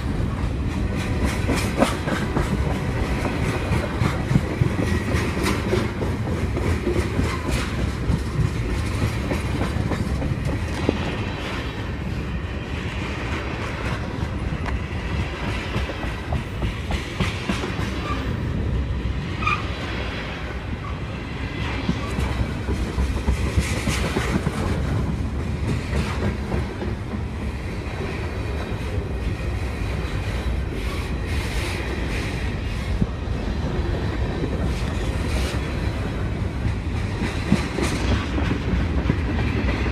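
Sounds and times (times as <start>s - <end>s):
train wheels clacking over rail joints: 0.0s - 18.5s, 21.6s - 39.9s.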